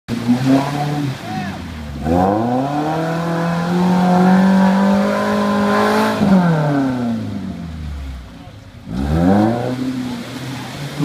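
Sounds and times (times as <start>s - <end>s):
off-road vehicle engine revving: 0.1s - 11.0s.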